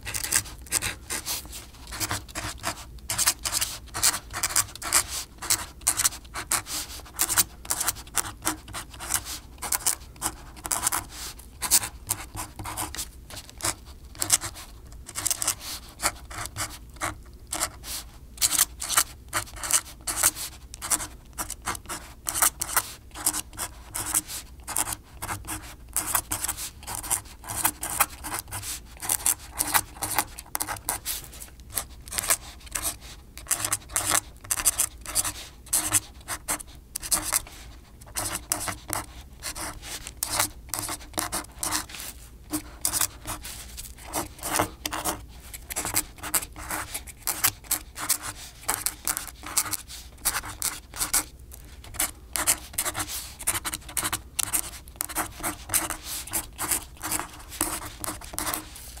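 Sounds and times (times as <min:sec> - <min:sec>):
quill nib scratching paper: 0:00.0 - 0:59.0.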